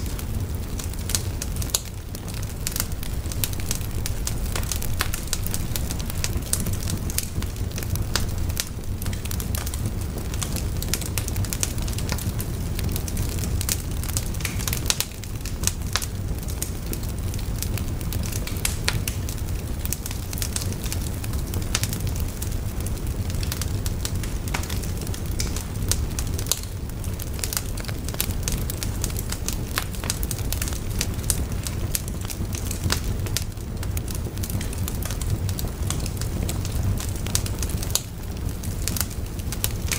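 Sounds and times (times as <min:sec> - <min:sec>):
fire low rumble: 0:00.0 - 0:39.9
wood fire crackling: 0:00.0 - 0:39.9.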